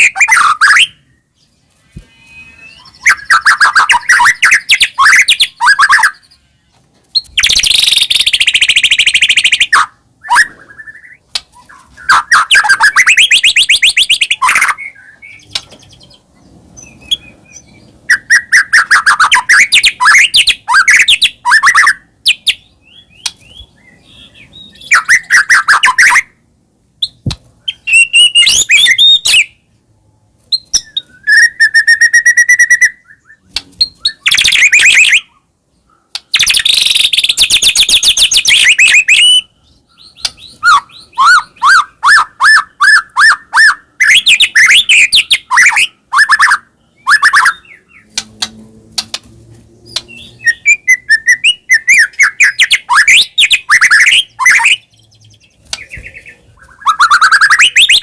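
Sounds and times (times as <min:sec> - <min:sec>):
bird singing whistles and trills: 0:00.0 - 0:06.5, 0:07.2 - 0:16.2, 0:16.8 - 0:26.3, 0:27.0 - 0:29.6, 0:30.5 - 0:35.4, 0:36.3 - 0:48.1, 0:49.9 - 0:58.0.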